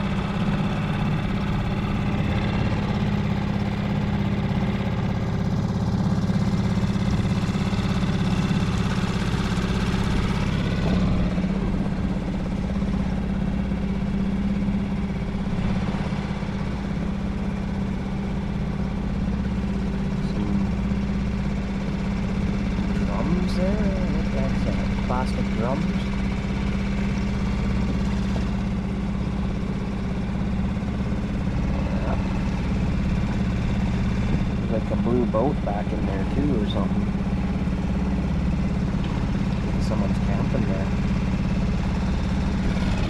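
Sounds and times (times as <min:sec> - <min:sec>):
outboard boat motor running: 0:00.0 - 0:43.0.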